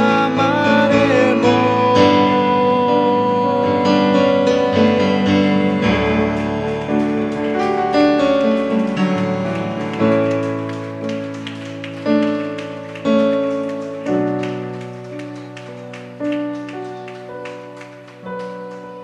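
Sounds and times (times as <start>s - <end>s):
piano playing slow chords: 0.0s - 19.0s.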